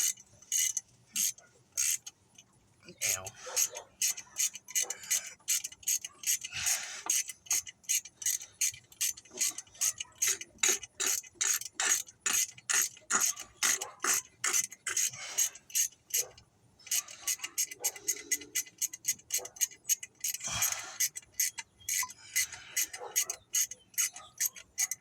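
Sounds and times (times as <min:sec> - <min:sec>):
ratchet wrench clicking: 0:00.0 - 0:02.2, 0:03.0 - 0:25.0.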